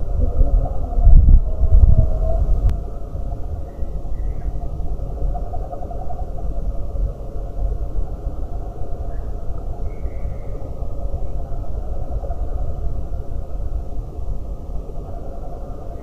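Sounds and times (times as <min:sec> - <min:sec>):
faint hum: 0:00.0 - 0:16.0
low outdoor rumble: 0:00.0 - 0:16.0.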